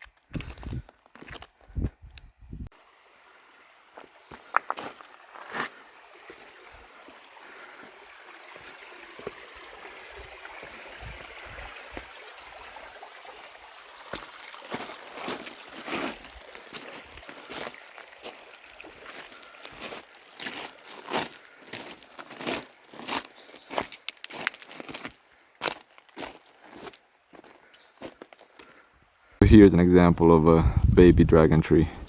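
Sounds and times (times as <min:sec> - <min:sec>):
stream running over rocks: 0:02.7 - 0:29.2.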